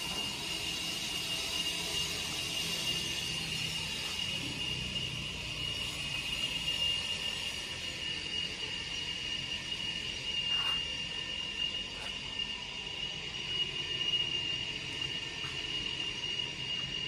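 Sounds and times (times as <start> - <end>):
machine whine and rumble: 0.0 - 17.0.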